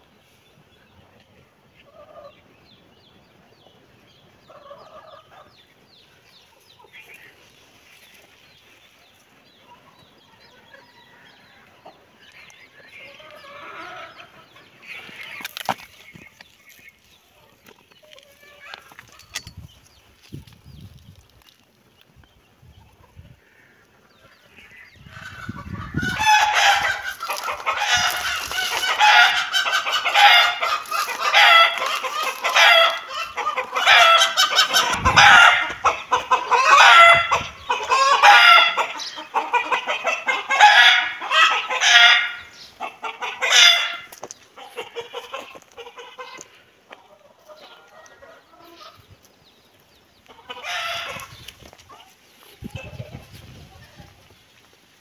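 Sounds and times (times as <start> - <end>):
chicken clucking and cackling: 0.0 - 19.5, 22.6 - 54.8.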